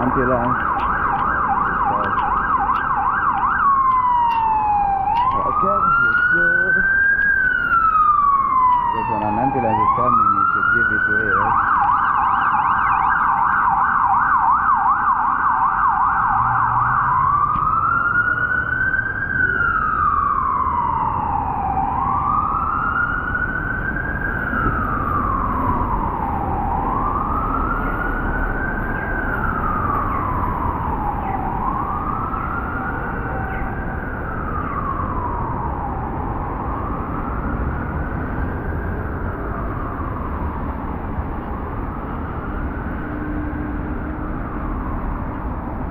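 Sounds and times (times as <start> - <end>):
ambulance siren: 0.0 - 45.9
low traffic rumble: 0.0 - 45.9.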